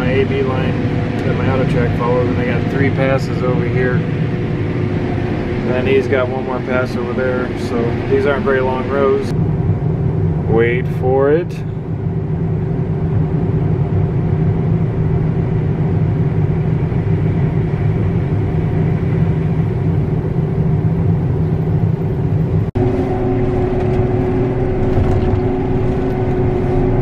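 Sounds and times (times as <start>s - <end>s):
combine engine and machinery drone: 0.0s - 27.0s.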